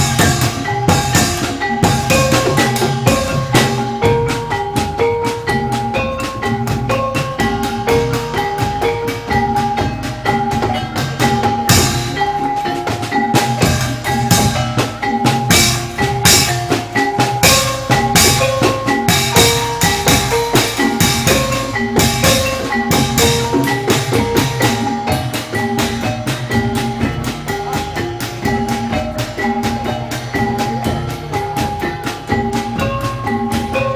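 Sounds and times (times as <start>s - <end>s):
steady drumming: 0.0s - 33.9s
tuned percussion melody: 0.0s - 33.9s.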